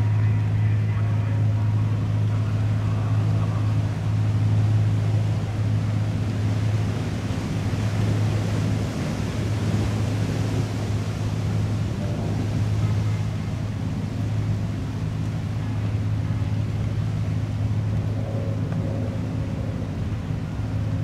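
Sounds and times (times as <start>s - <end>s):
ship machinery humming: 0.0s - 21.0s
water noise: 0.0s - 21.0s
wind: 0.0s - 21.0s.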